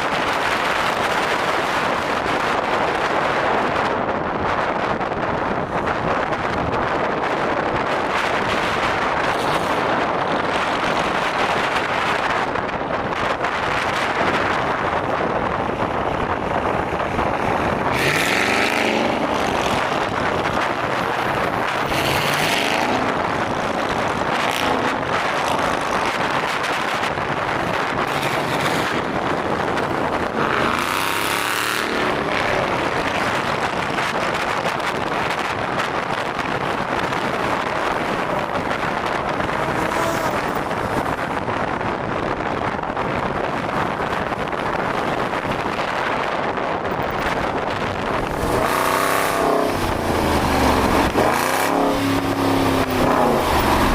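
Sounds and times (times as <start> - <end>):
car road and wind noise: 0.0 - 53.9
vehicles passing by: 0.0 - 53.9.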